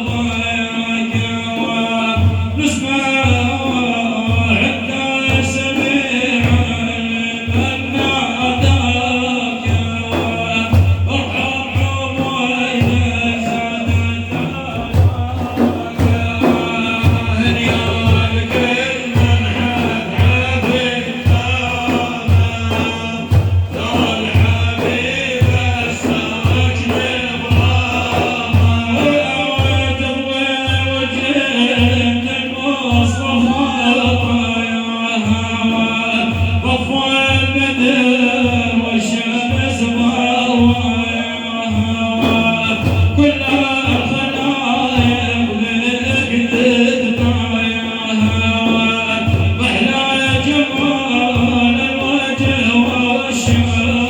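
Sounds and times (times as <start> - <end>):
low drum beat: 0.0 - 54.0
man chanting a melody: 0.0 - 54.0.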